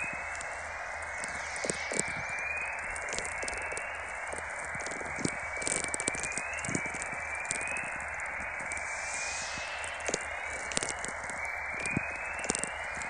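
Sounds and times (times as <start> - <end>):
crackling clicks: 0.0 - 13.0
radio hiss: 0.0 - 13.0.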